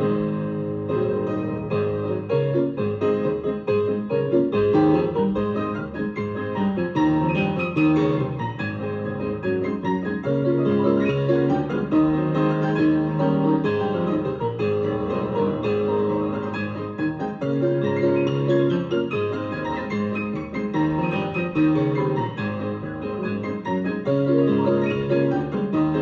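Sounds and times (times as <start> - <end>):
piano playing chords: 0.0 - 26.0.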